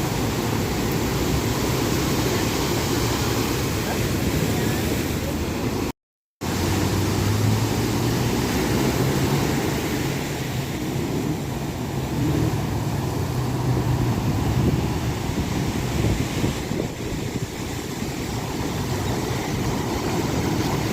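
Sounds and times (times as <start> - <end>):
low engine hum of traffic: 0.0 - 20.9
ocean surf breaking: 0.0 - 20.9.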